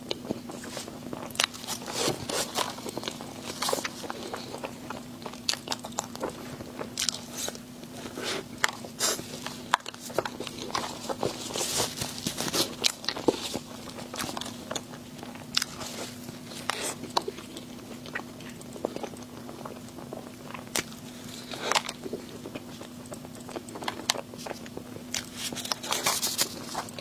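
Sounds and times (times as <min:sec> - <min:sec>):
chewing and biting food: 0:00.0 - 0:27.0
faint steady hum: 0:00.0 - 0:27.0.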